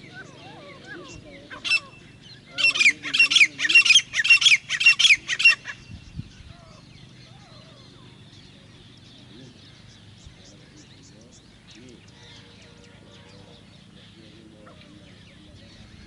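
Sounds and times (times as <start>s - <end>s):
grey francolin calling: 0.0s - 16.0s.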